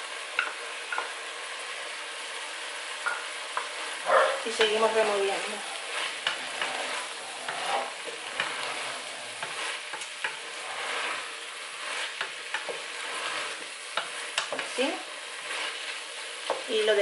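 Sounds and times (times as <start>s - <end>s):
vegetables sizzling in oil: 0.0s - 17.0s
wooden spatula scraping a pot: 3.0s - 17.0s.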